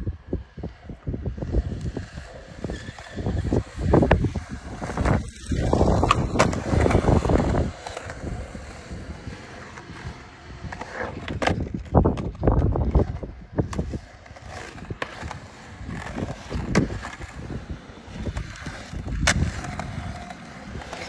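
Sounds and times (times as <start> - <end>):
skateboard wheels rolling on concrete: 0.0 - 21.0
skateboard clacking on concrete: 0.4 - 21.0.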